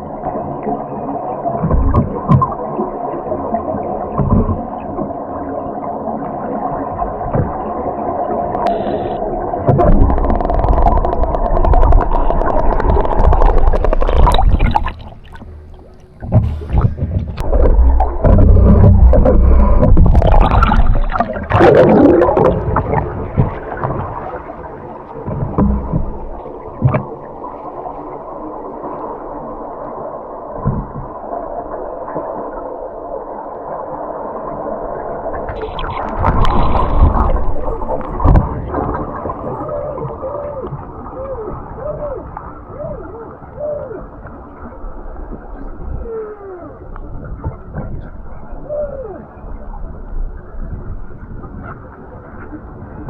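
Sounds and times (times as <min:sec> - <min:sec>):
diving regulator hum: 0:00.0 - 0:53.0
exhaled air bubbles rumbling: 0:00.0 - 0:53.0.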